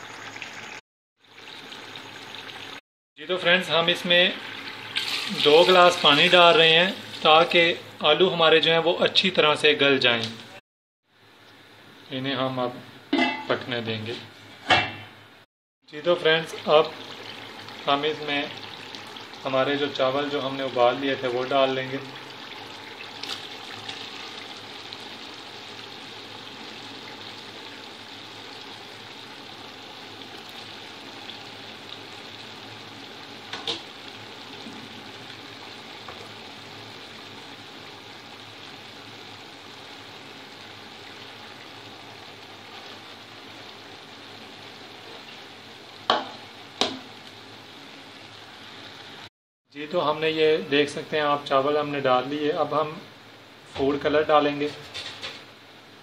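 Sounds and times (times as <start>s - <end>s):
gravy bubbling and sizzling in a pot: 0.0s - 9.4s, 15.9s - 56.0s.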